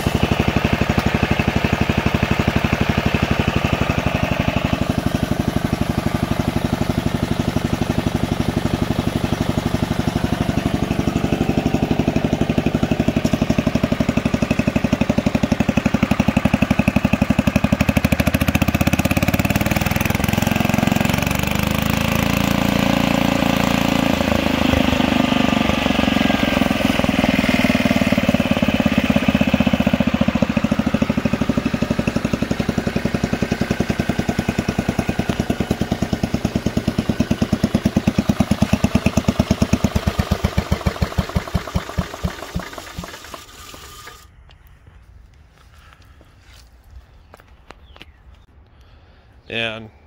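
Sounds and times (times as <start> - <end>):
single-cylinder engine running: 0.0 - 44.6.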